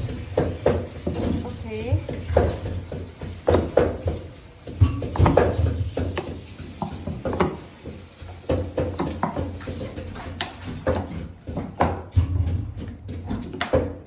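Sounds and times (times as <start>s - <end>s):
knife chopping on wooden board: 0.0s - 1.4s, 2.0s - 14.0s.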